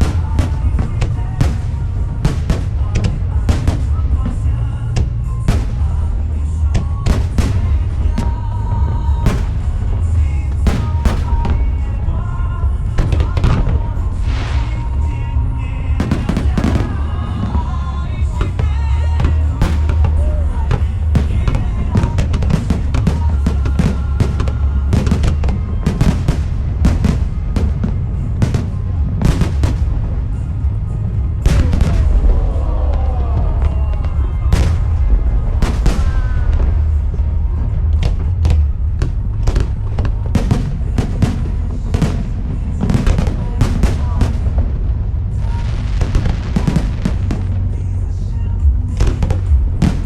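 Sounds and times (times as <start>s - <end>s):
fireworks bangs and crackles: 0.0s - 50.0s
low rumble: 0.0s - 50.0s
music playing: 0.0s - 50.0s.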